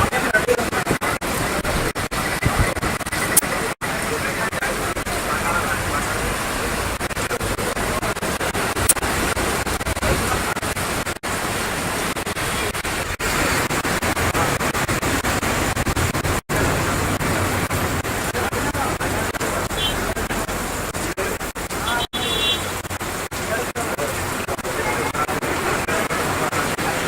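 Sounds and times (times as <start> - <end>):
street ambience hiss: 0.0 - 27.0.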